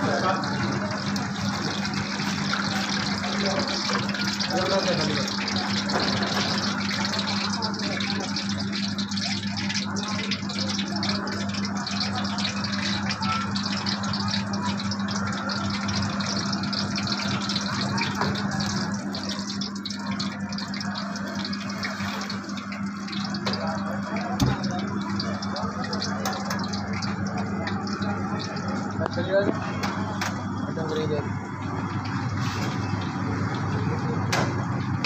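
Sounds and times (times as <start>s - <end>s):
food deep-frying in oil: 0.0s - 35.0s.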